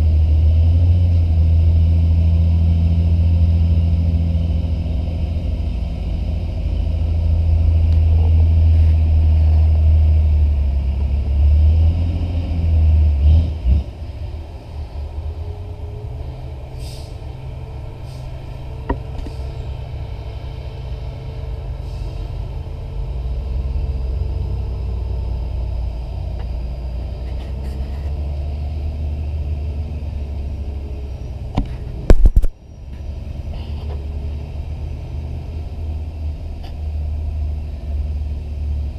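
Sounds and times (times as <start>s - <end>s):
diesel truck engine rumble: 0.0s - 38.9s.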